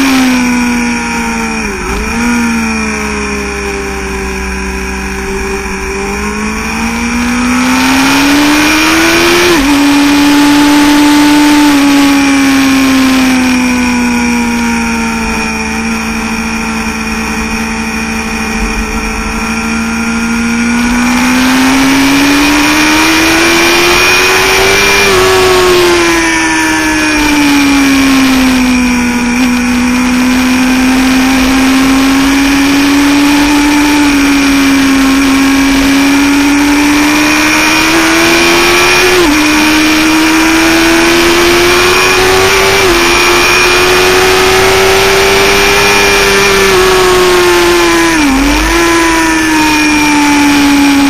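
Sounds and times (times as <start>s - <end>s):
motorcycle engine at high revs: 0.0s - 51.0s.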